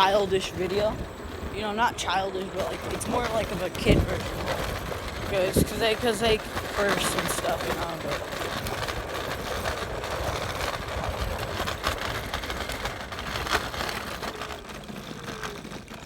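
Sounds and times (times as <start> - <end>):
scooter wheels rumbling on road: 0.0 - 16.0.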